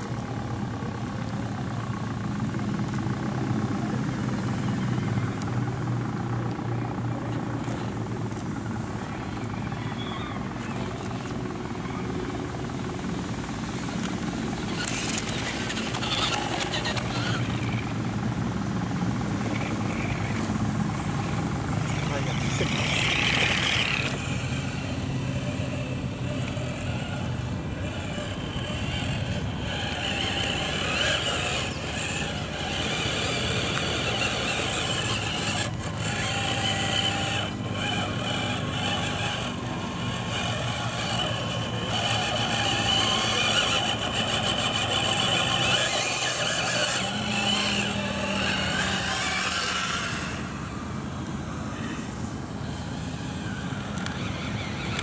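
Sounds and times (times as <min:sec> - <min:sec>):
rc truck motors whining: 0:00.0 - 0:55.0.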